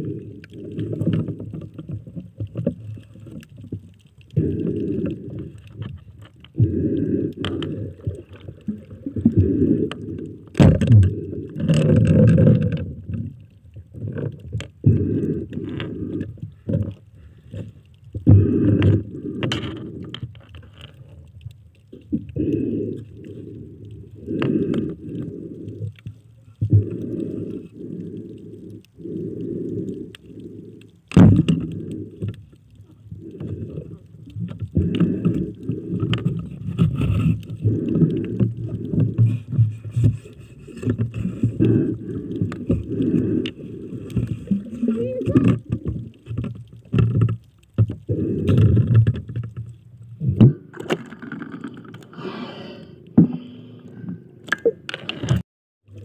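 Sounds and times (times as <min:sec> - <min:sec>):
muffled underwater rushing water: 0:00.0 - 0:56.0.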